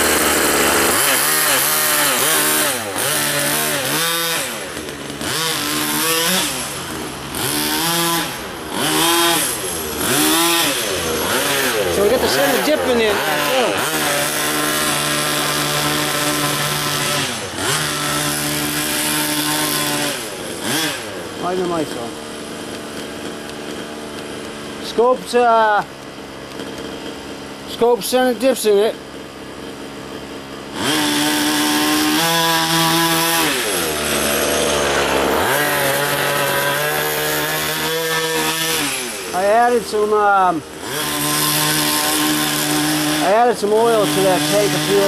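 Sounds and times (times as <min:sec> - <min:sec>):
small two-stroke engine revving high: 0:00.0 - 0:45.0.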